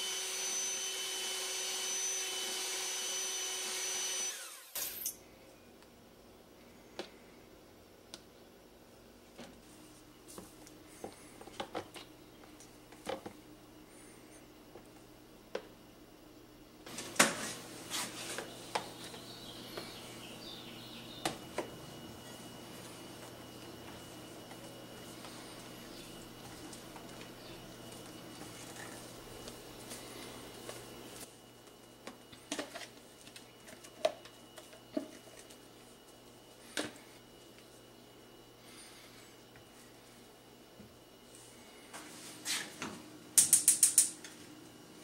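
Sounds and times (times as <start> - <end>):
faint steady hum: 4.2 - 45.0.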